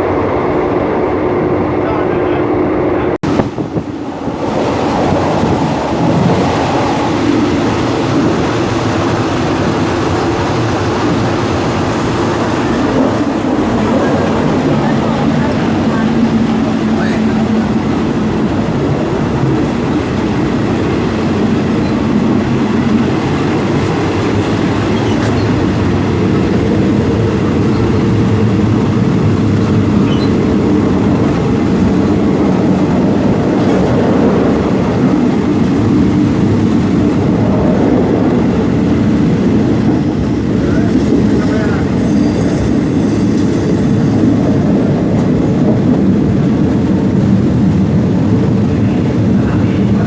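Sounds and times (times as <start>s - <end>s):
train carriage rumbling on rails: 0.0s - 50.0s.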